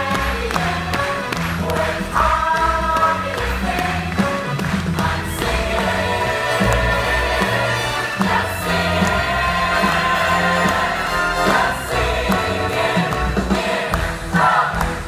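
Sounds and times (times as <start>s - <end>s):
ensemble singing in chorus: 0.0s - 15.0s
live orchestra: 0.0s - 15.0s.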